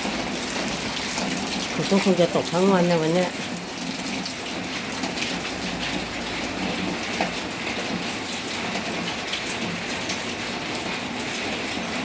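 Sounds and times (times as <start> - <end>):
raindrops ticking on a surface: 0.0 - 12.0
steady rain falling: 0.0 - 12.0.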